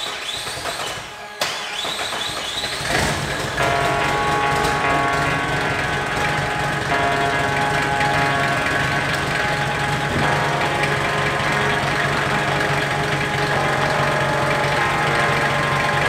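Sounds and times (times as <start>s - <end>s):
diesel engine idling with knock: 2.6s - 16.0s.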